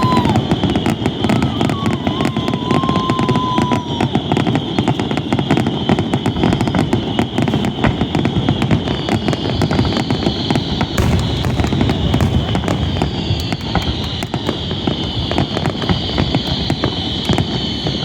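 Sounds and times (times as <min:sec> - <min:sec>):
fireworks bangs and crackles: 0:00.0 - 0:18.0
thin falling firework whistle: 0:00.0 - 0:18.0.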